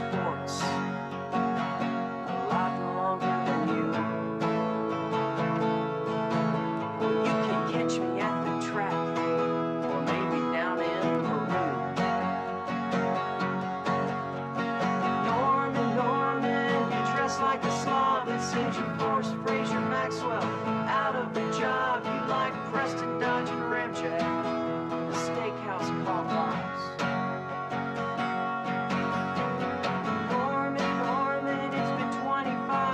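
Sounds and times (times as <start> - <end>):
two acoustic guitars playing: 0.0 - 32.9.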